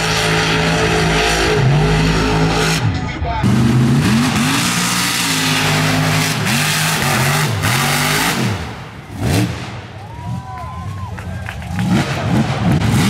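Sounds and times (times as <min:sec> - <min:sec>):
truck engine revving in mud: 0:00.0 - 0:10.4, 0:11.6 - 0:13.0.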